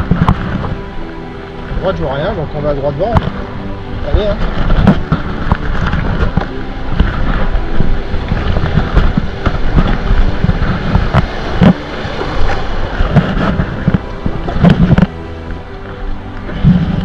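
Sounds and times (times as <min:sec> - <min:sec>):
paddle blades slapping water: 0:00.0 - 0:17.0
river water rushing: 0:00.0 - 0:17.0
wind buffeting microphone: 0:00.0 - 0:17.0.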